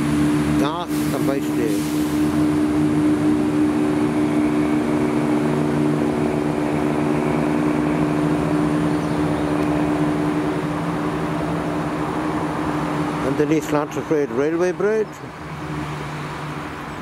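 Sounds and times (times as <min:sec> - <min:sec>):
diesel train engines droning: 0:00.0 - 0:17.0.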